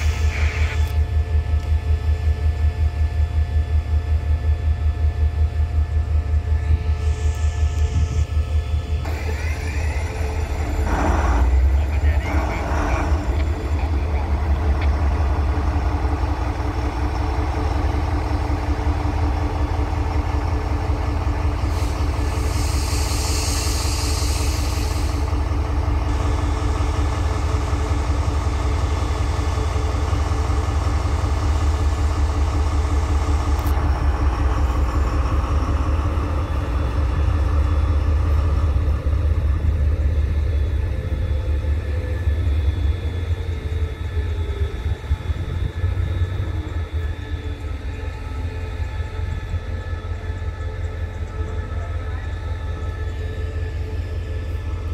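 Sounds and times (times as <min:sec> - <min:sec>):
diesel locomotive engine running: 0:00.0 - 0:54.9.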